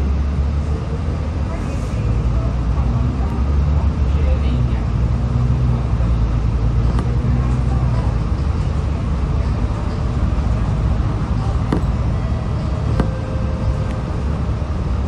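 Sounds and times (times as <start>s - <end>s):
bus engine hum: 0.0s - 15.0s
road noise: 0.0s - 15.0s.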